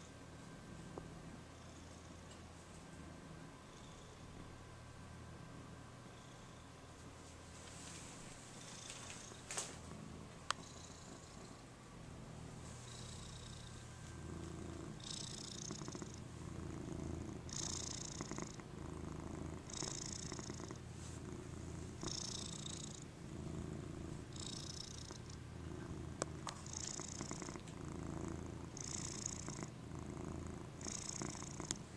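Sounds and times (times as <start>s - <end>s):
cat purring: 0.0s - 4.4s, 5.2s - 6.8s, 8.5s - 31.9s.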